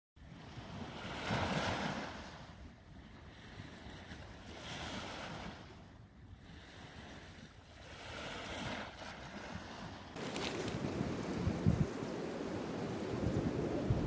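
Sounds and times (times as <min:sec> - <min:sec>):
small waves washing on beach: 0:00.2 - 0:14.0.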